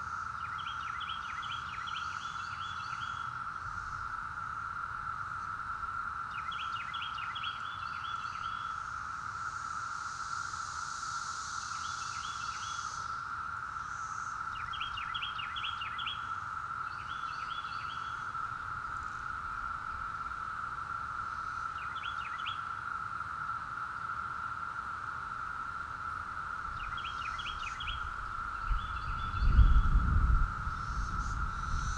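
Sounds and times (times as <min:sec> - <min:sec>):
cicada chorus droning: 0:00.0 - 0:31.9.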